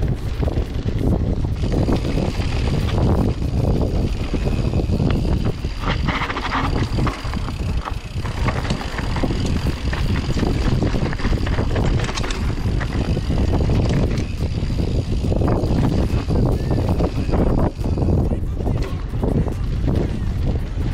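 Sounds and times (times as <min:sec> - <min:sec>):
bike rattling and clicking: 0:00.0 - 0:20.9
bike tyres rolling on dirt: 0:00.0 - 0:20.9
wind on the microphone: 0:00.0 - 0:20.9.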